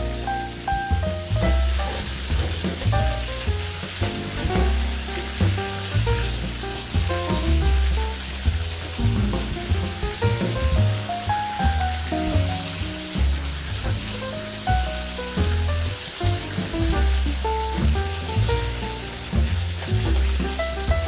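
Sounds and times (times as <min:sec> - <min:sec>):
background music with bass line: 0:00.0 - 0:21.0
seafood sizzling in oil: 0:00.0 - 0:21.0.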